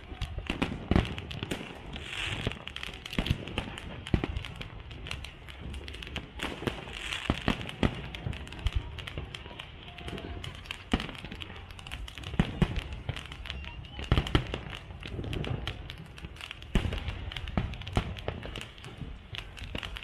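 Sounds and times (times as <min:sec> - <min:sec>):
crackling hissing firework bursts: 0:00.0 - 0:20.0.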